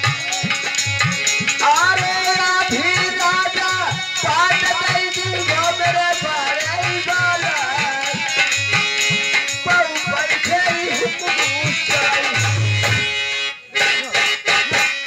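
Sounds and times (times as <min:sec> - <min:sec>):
hand drum beat: 0:00.0 - 0:13.2.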